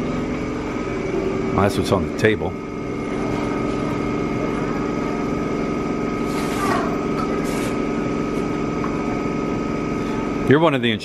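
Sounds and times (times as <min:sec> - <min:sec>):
motor humming: 0:00.0 - 0:11.0
thin high whine: 0:00.0 - 0:11.0.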